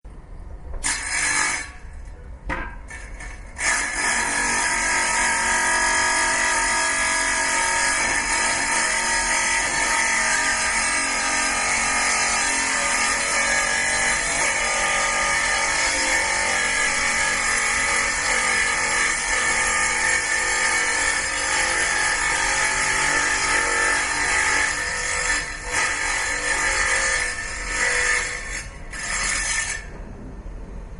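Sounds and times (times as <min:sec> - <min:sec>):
power tool whining on metal: 0:00.8 - 0:01.8, 0:02.9 - 0:29.9.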